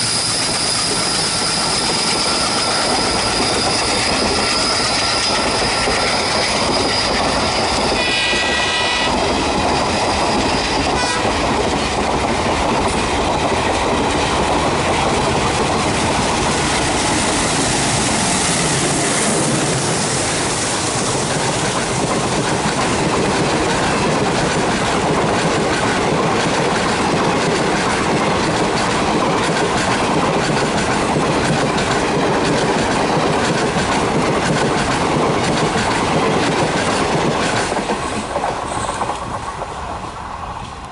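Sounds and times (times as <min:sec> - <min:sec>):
train wheels clattering over rail joints: 0:00.0 - 0:40.0.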